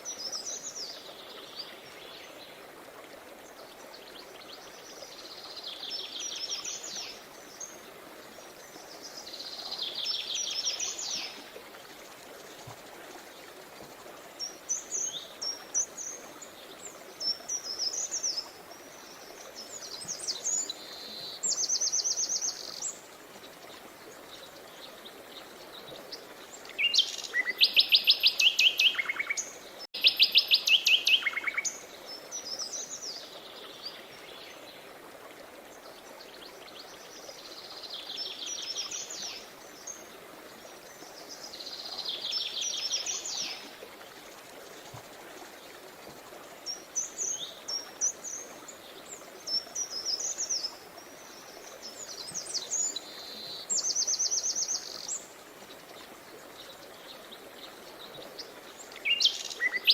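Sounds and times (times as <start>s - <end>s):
running river water: 0.0s - 59.9s.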